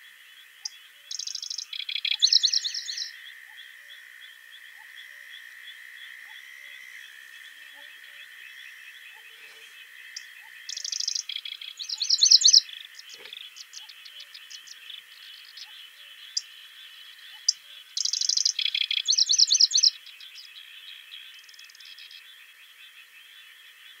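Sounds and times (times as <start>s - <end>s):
songbird singing trills: 0.6s - 5.4s, 6.2s - 24.0s
chorus of faint high calls: 0.6s - 20.0s.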